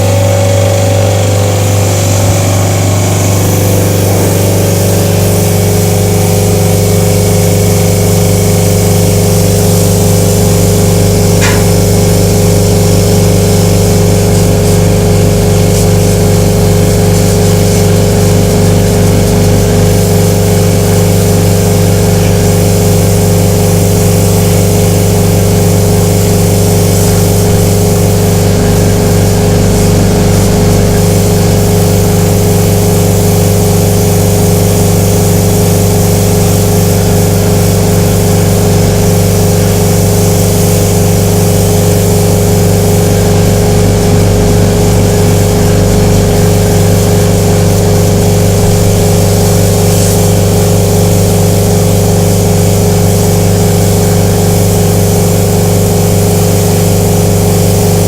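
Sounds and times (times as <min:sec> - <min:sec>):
parts washer machine hum: 0:00.0 - 0:58.0.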